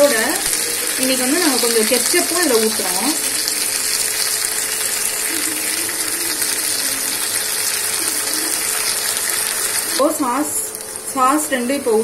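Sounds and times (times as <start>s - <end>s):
vegetables sizzling in hot oil: 0.0s - 11.6s.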